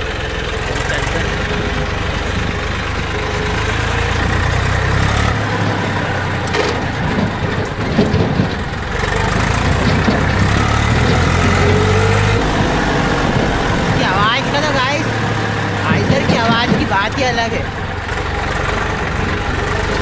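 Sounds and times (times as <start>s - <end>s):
knocks and rattles: 0.0s - 20.0s
tractor diesel engine running: 0.0s - 20.0s.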